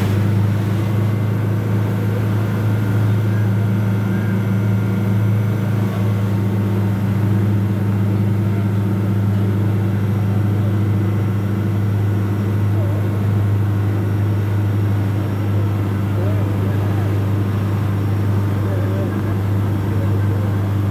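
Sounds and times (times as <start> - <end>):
boat engine running: 0.0 - 20.9.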